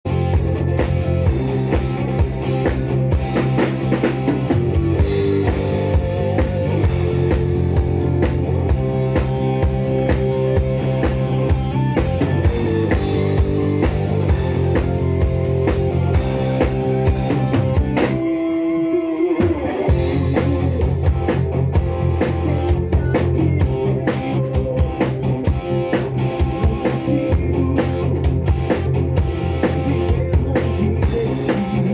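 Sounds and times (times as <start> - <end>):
overdriven electric guitar: 0.0 - 31.9
drum kit beat: 0.1 - 18.3, 19.4 - 31.9.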